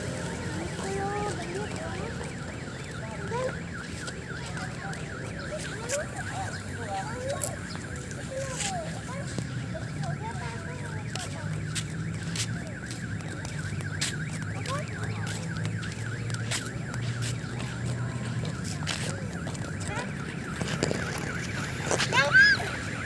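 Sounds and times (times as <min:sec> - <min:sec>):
warbling alarm tone: 0:00.0 - 0:23.0.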